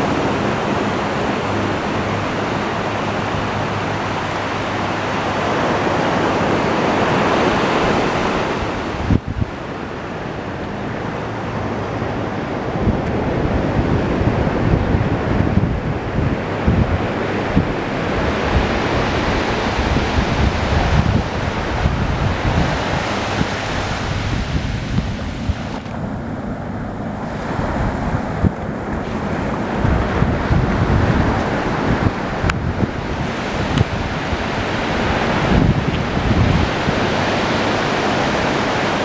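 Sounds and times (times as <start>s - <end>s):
ocean surf washing in: 0.0s - 39.0s
wind buffeting microphone: 0.0s - 39.0s.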